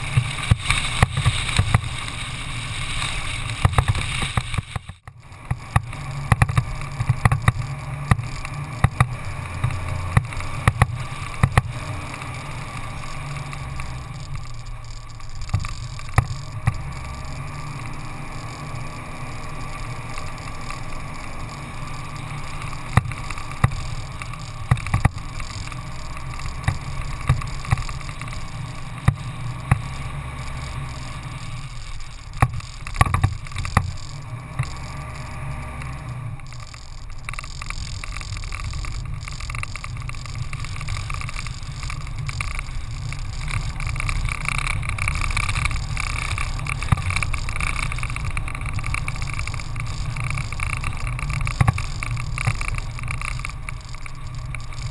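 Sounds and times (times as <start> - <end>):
vehicle rumble on dirt track: 0.0 - 54.9.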